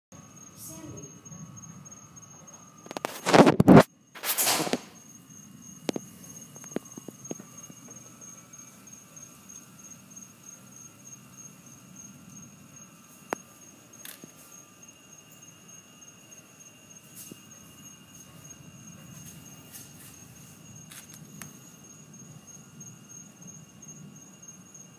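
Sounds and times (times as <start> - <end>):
night insects chirring: 0.2 - 24.9.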